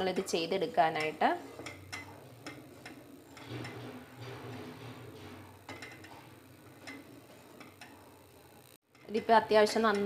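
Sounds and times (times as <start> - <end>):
spatula scraping steel pot: 0.0 - 8.2.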